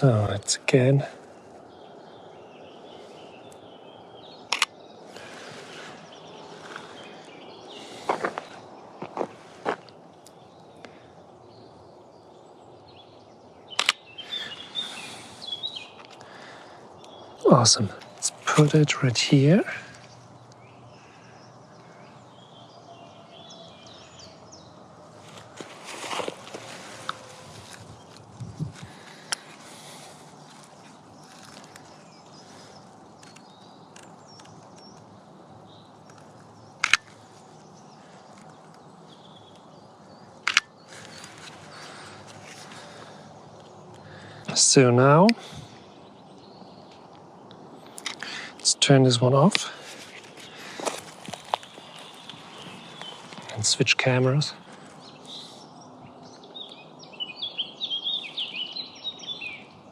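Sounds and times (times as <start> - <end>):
small birds chirping: 0.0 - 59.9
steady outdoor hiss: 0.0 - 59.9.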